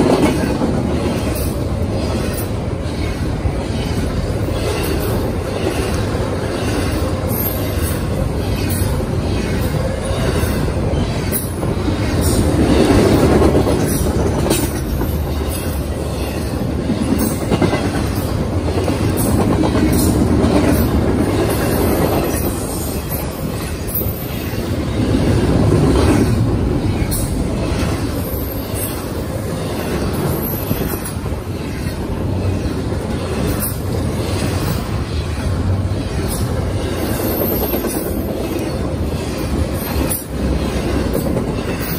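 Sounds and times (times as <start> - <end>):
freight train wheels rumbling: 0.0 - 41.9
wheels clacking on rails: 0.0 - 41.9.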